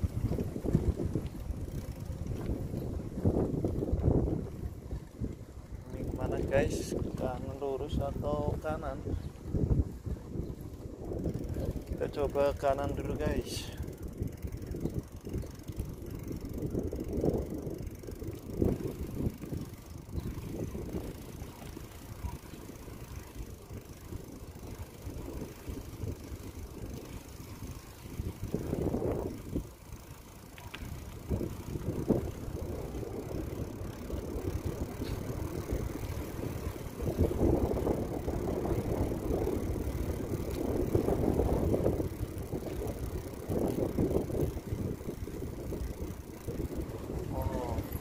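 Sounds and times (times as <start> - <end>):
bicycle rolling noise and rattle: 0.0 - 48.0.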